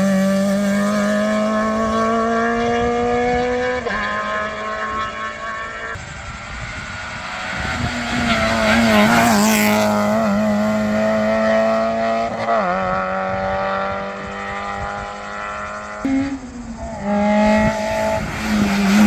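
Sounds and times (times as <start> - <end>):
rally car engine at high revs: 0.0 - 19.0.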